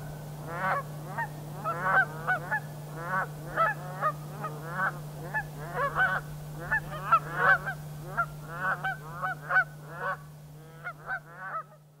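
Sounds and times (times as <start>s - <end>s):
geese honking: 0.0s - 11.8s
low steady hum: 0.0s - 12.0s.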